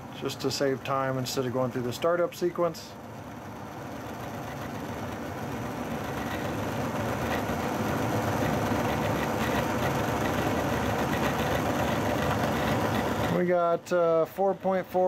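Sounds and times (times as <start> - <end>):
model locomotive motor whirring: 0.0 - 13.6.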